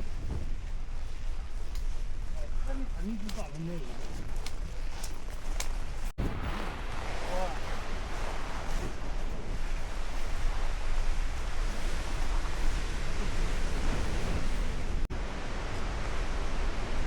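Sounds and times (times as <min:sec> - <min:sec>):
rushing wind: 0:00.0 - 0:17.0
wind buffeting microphone: 0:00.0 - 0:17.0.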